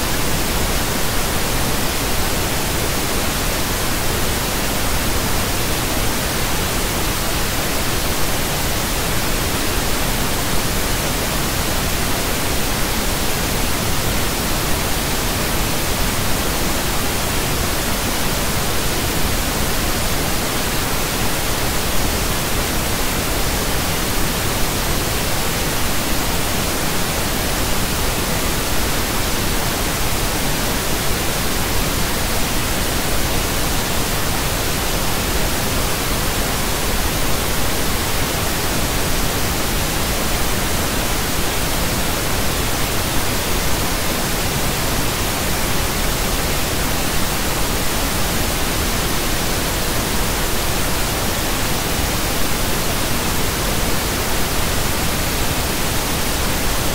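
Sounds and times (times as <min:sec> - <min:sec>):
pink noise hiss: 0:00.0 - 0:56.9.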